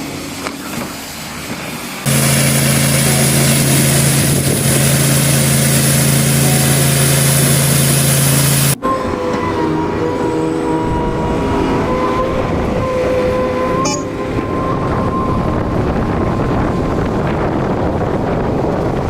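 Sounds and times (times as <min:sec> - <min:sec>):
machine humming and hissing: 0:00.0 - 0:18.6.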